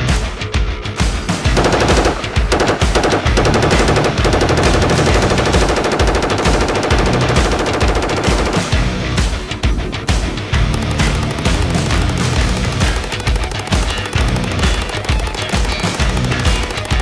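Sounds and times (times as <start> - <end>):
rifle automatic gunfire: 1.5 - 8.9, 10.6 - 17.0.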